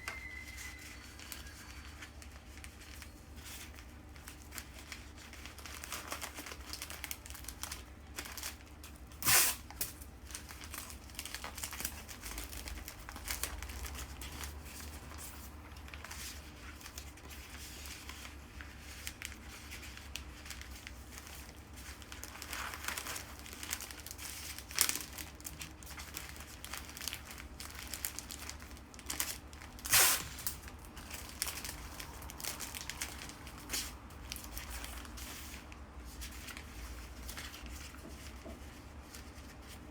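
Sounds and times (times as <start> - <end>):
wrapping tearing: 0.0 - 38.0
wrapping paper crinkling: 0.0 - 39.9.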